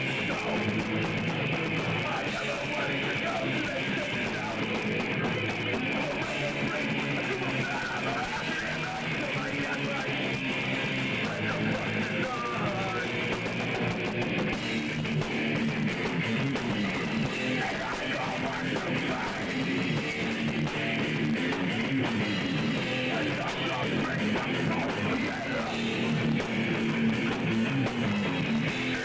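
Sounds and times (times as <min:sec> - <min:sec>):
electric guitars: 0:00.0 - 0:29.0
punk rock band playing live: 0:00.0 - 0:29.0.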